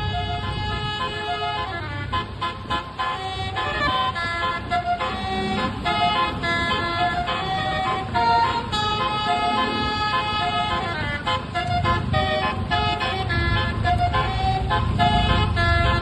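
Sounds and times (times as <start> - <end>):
bus musical horn playing: 0.0 - 16.0.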